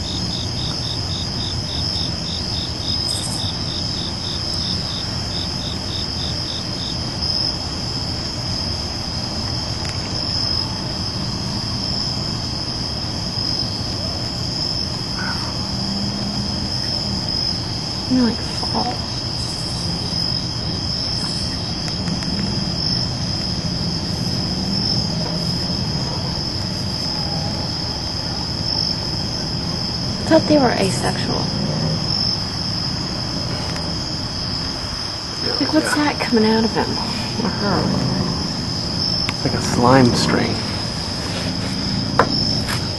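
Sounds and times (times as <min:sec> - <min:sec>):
cricket pulsed chirps: 0:00.0 - 0:42.9
crickets trilling: 0:00.0 - 0:42.9.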